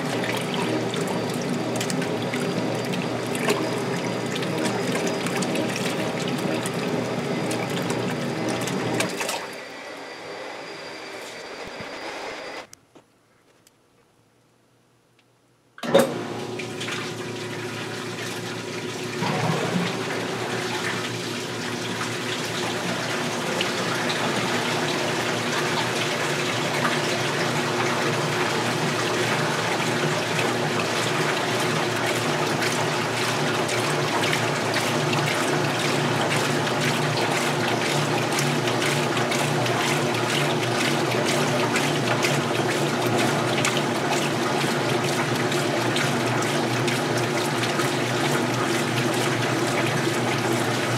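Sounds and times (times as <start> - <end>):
water pouring into washer: 0.0 - 9.7, 15.8 - 50.9.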